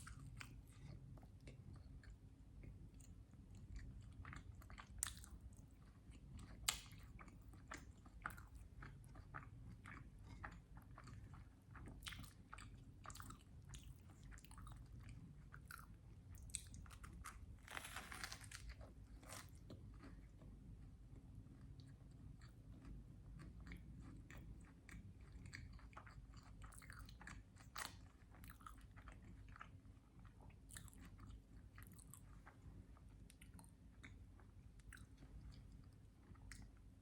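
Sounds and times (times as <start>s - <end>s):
person chewing food: 0.0s - 36.8s.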